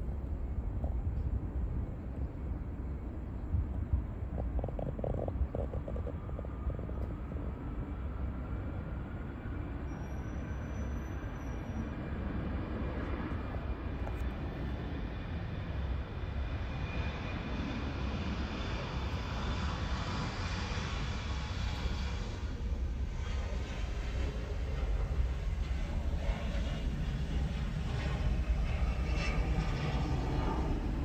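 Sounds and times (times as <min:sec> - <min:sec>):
airplane engine rumble: 0:00.0 - 0:31.0.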